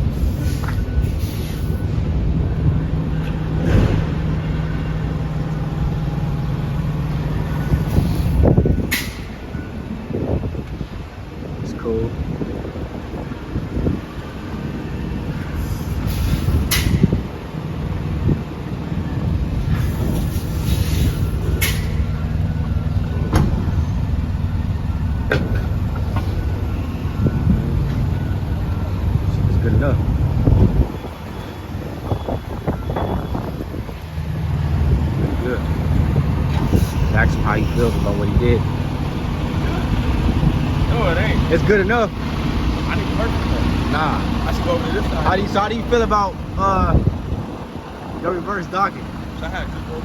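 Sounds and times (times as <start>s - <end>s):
diesel engine rumbling: 0.0s - 50.0s.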